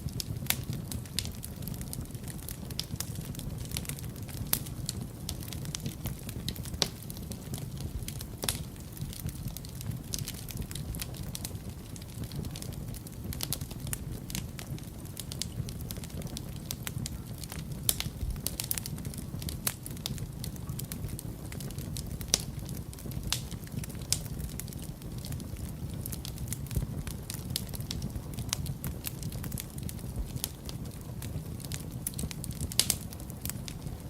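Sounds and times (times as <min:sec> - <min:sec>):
fire crackling and popping: 0:00.0 - 0:34.0
low rumble of flames: 0:00.0 - 0:34.0.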